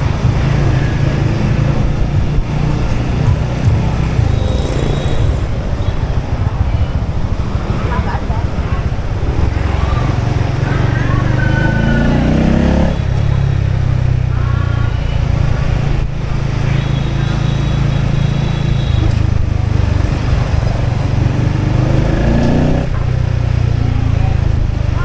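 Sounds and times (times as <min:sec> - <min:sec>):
people talking: 0:00.0 - 0:21.2, 0:21.8 - 0:25.0
motorbike engine running: 0:00.0 - 0:25.0.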